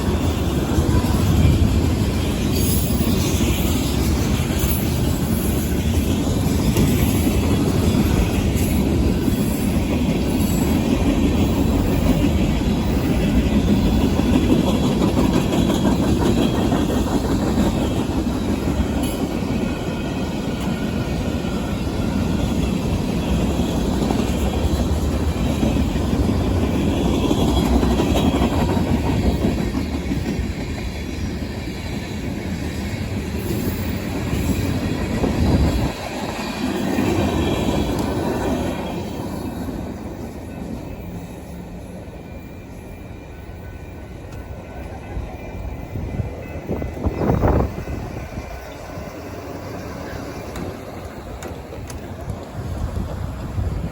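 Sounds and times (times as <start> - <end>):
freight train wheels clattering: 0.0 - 53.9.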